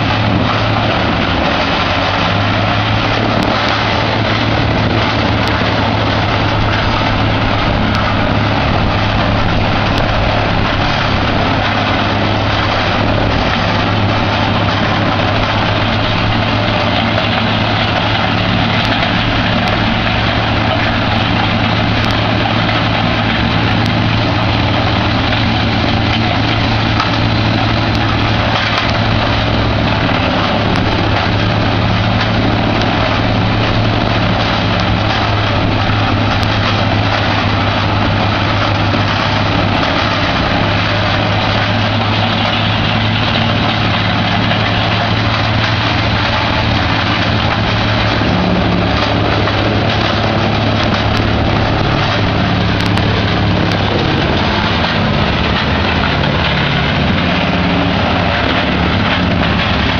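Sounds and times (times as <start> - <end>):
grinder shredding branches: 0.0 - 59.9.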